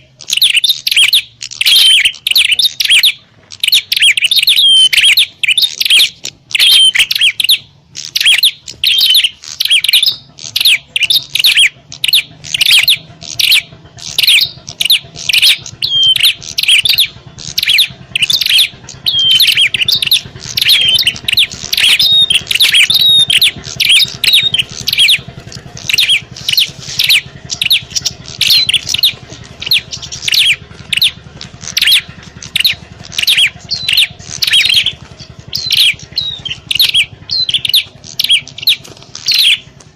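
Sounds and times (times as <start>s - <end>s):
birds chipping and trilling: 0.0s - 39.9s.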